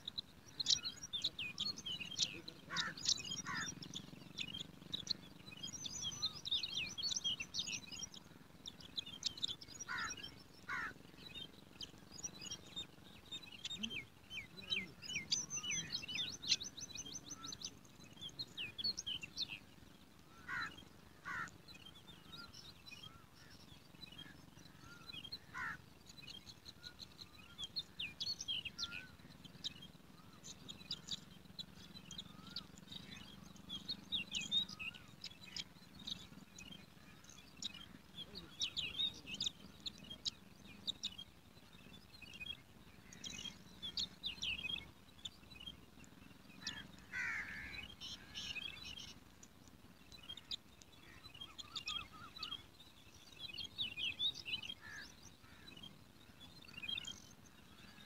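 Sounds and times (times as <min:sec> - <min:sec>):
bird trill: 0:00.0 - 0:58.0
low down-slurred bird calls: 0:00.0 - 0:58.0
small birds chirping: 0:00.0 - 0:58.0.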